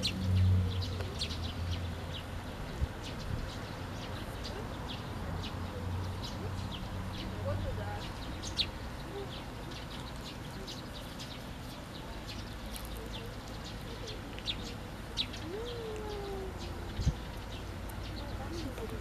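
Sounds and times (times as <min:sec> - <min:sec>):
sparrows chirping: 0:00.0 - 0:19.0.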